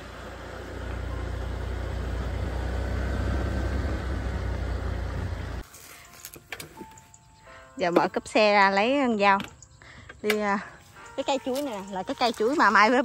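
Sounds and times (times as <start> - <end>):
motorbike engine rumbling: 0.0 - 13.0.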